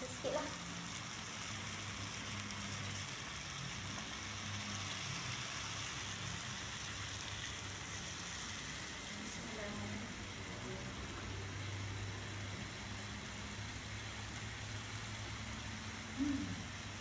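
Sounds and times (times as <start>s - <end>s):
chilli paste sizzling in pan: 0.0s - 17.0s.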